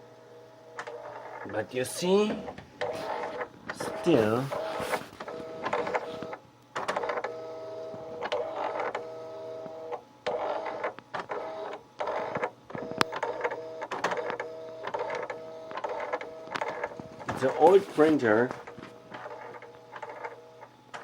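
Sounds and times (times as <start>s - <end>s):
printer carriage whine: 0.0s - 21.0s
printer clicks: 0.8s - 4.7s, 5.4s - 7.4s, 8.0s - 21.0s.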